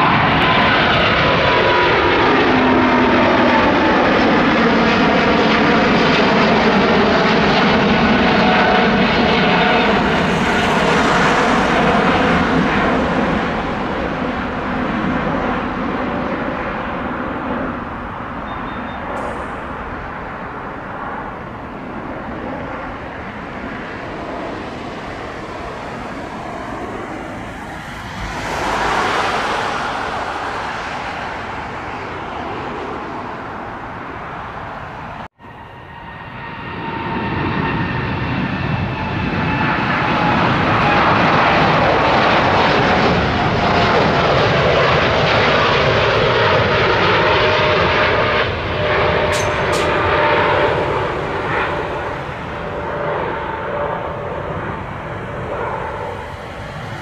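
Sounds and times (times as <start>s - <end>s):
jet engine whine: 0.0s - 57.0s
jet engines rushing: 0.0s - 57.0s.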